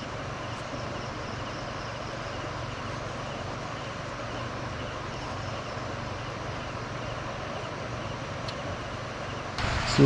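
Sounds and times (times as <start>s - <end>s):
low even hum: 0.0s - 10.0s.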